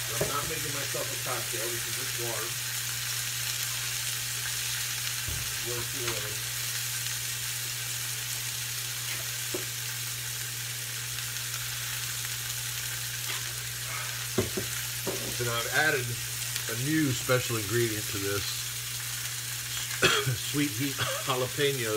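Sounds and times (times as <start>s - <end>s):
steak sizzling in a pan: 0.0s - 21.9s.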